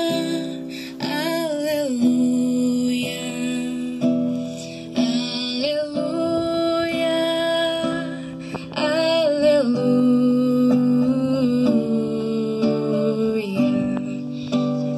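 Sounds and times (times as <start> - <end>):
acoustic guitar: 0.0 - 14.9
woman singing into a microphone: 0.0 - 14.9.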